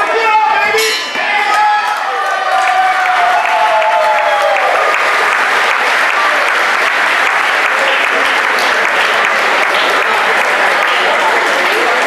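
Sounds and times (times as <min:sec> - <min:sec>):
audience clapping: 0:01.5 - 0:12.0.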